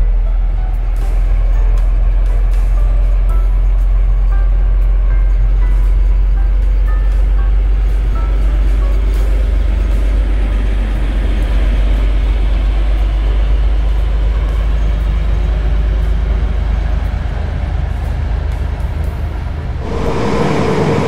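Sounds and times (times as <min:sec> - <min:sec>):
diesel locomotive engine drone: 0:00.0 - 0:21.0
passenger coaches rolling: 0:00.0 - 0:21.0.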